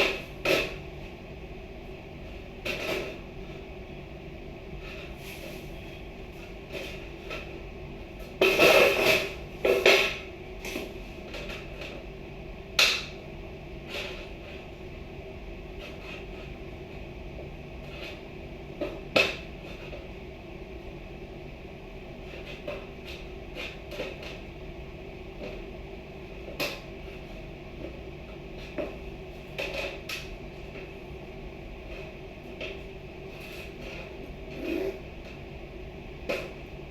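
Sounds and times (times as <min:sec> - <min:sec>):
steady background hum: 0:00.0 - 0:36.9.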